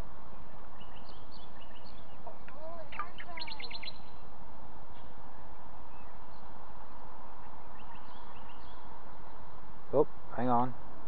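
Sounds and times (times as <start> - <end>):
birds chirping: 0.0 - 11.0
steady background hiss: 0.0 - 11.0.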